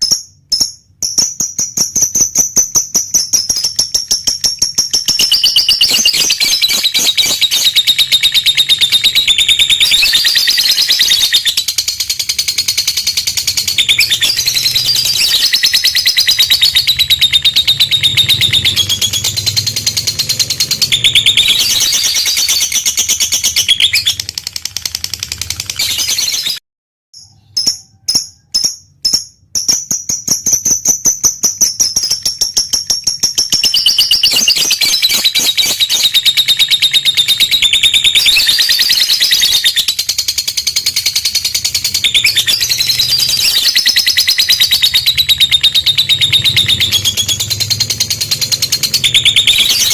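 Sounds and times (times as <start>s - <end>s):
lovebird chattering trill: 0.0s - 26.6s, 27.2s - 49.9s.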